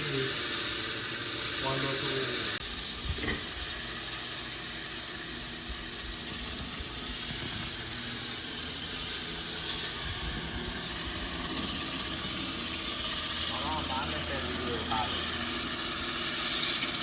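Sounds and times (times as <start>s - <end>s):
water spraying onto stone tiles: 0.0s - 17.0s.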